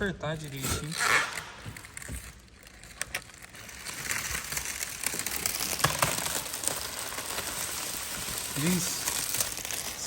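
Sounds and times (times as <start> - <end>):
material crinkling and rustling: 0.0 - 10.0.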